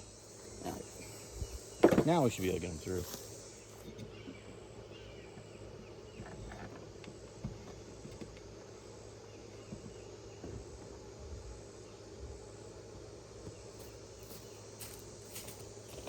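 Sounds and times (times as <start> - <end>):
faint high insect call: 0.0 - 16.0.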